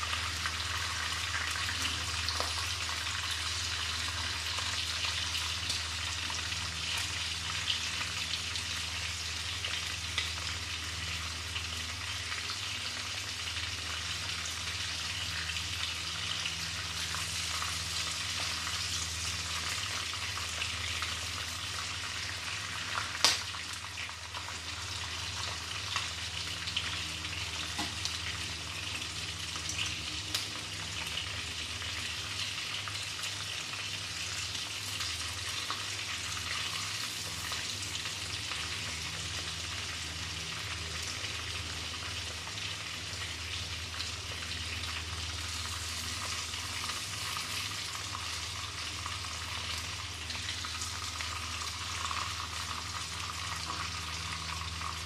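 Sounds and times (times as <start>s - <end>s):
prawns sizzling in hot oil: 0.0s - 55.0s.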